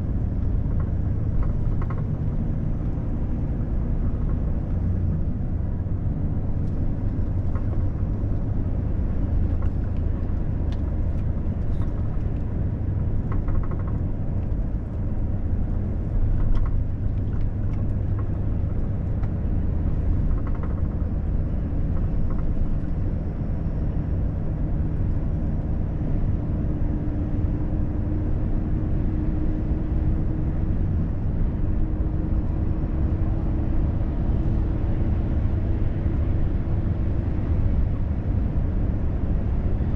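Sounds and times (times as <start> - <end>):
truck engine and tyres droning: 0.0 - 39.9.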